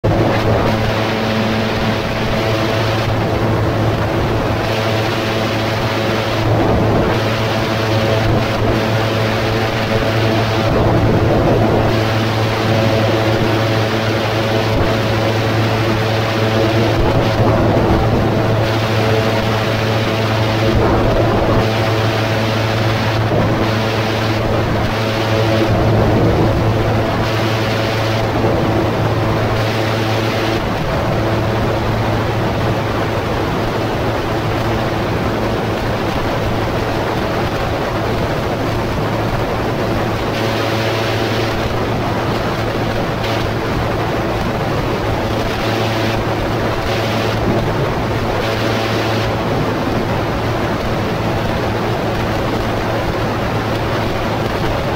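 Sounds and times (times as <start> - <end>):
gyroplane engine and propeller: 0.0 - 54.9
wind rushing: 0.0 - 54.9.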